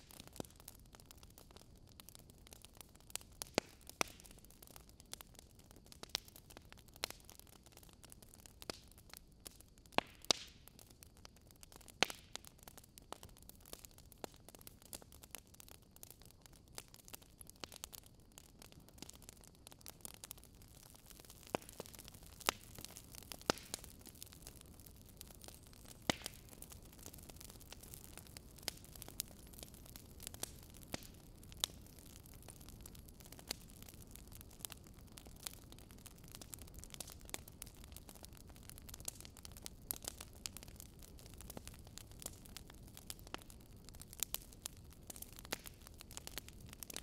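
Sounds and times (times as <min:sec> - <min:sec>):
fire crackling: 0:00.0 - 0:47.0.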